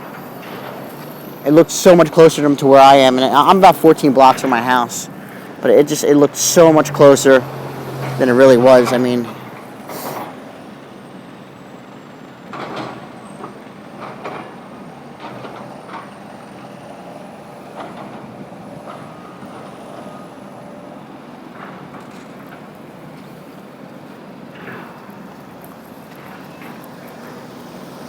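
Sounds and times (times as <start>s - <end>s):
heavy vehicle engine: 0.0s - 28.0s.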